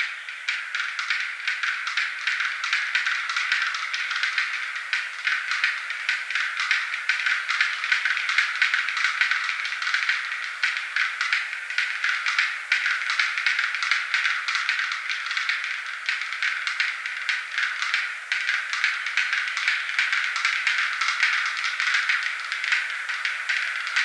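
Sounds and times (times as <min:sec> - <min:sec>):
bird display calls of dry clicks: 0:00.1 - 0:24.0.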